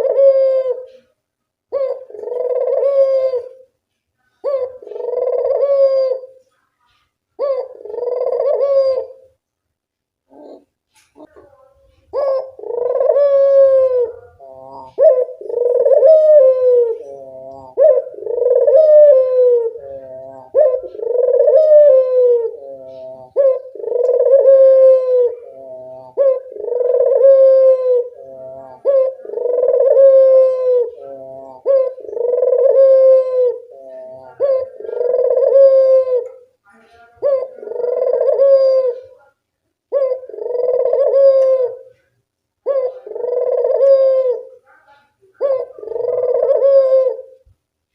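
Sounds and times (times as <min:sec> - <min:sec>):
dove cooing: 0:00.0 - 0:03.7, 0:04.3 - 0:06.5, 0:07.4 - 0:09.3, 0:10.3 - 0:47.5.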